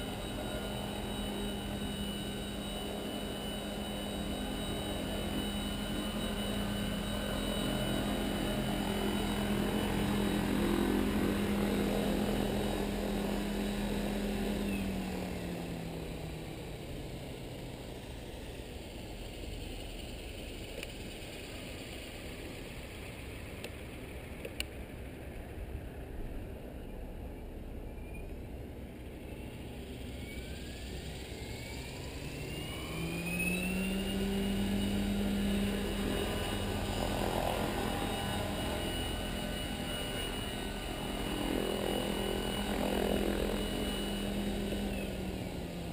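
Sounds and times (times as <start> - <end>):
electric helicopter rotor whine: 0.0 - 45.9.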